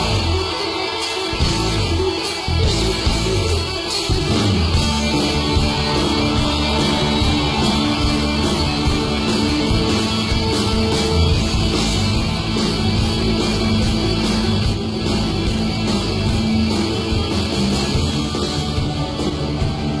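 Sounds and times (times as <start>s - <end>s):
bass: 0.0s - 20.0s
distorted electric guitars: 0.0s - 20.0s
steady drum beat: 0.0s - 20.0s.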